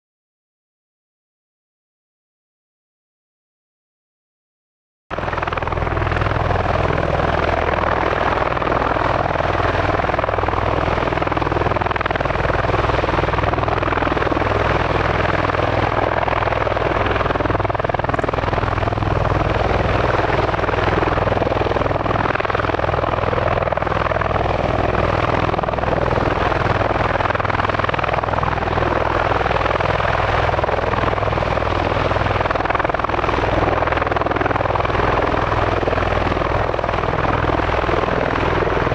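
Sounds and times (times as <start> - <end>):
tiltrotor aircraft running: 5.1 - 38.9.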